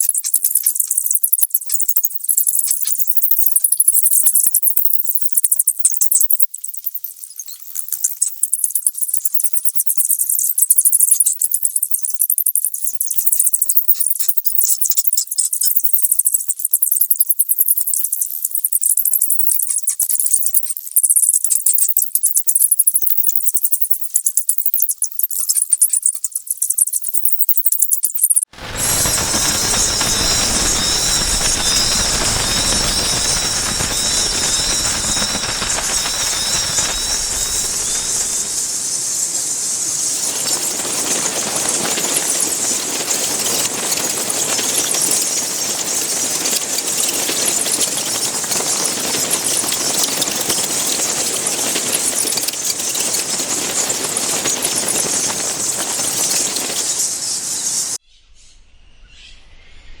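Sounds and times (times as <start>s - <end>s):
bats squeaking and chittering: 0.0s - 58.0s.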